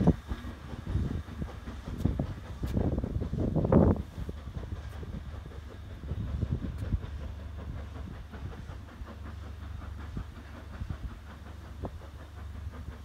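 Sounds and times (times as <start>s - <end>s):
steam train chuffs: 0.0s - 13.0s.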